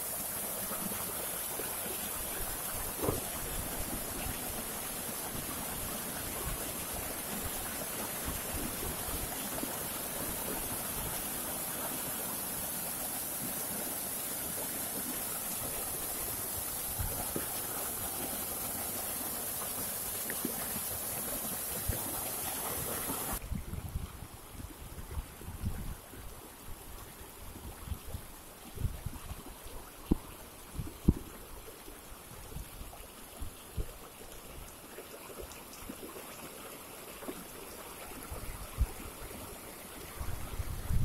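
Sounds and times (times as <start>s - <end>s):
stream rushing over rocks: 0.0s - 24.0s, 24.8s - 41.0s.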